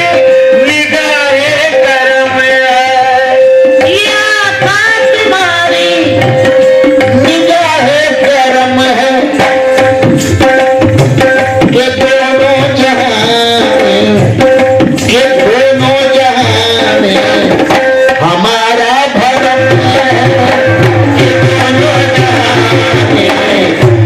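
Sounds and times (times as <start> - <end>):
person singing: 0.0 - 9.6, 11.7 - 14.5, 15.1 - 24.0
tabla drumming: 0.0 - 24.0.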